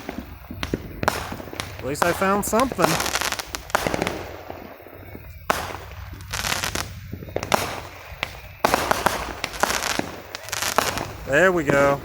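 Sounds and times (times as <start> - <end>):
fireworks bursting: 0.0 - 12.0
fireworks crackling: 0.0 - 12.0.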